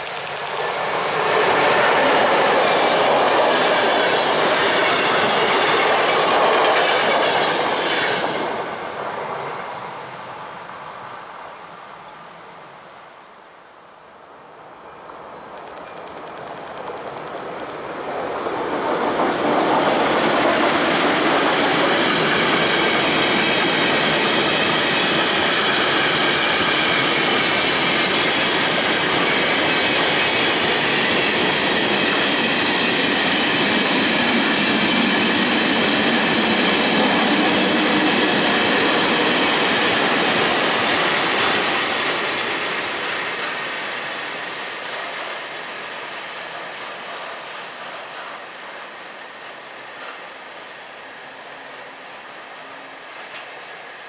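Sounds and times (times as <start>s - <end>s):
freight train wheels rolling on rails: 0.0s - 11.2s, 15.2s - 54.0s.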